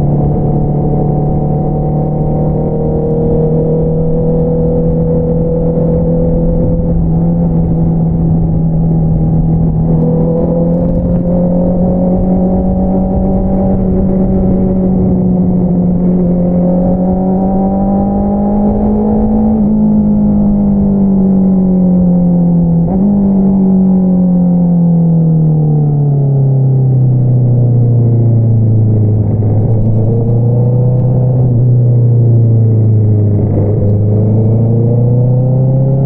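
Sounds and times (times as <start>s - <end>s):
motorcycle engine while riding: 0.0s - 36.0s.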